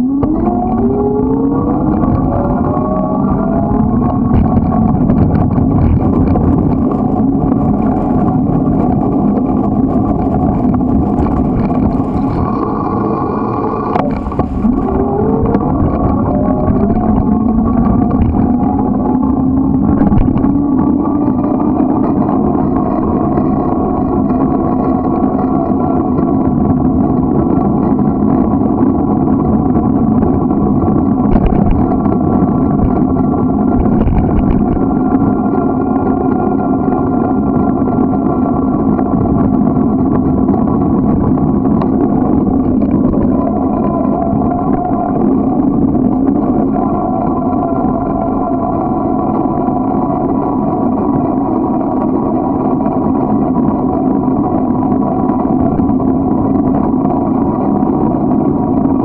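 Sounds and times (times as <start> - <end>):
road and wind rumble: 0.0 - 59.0.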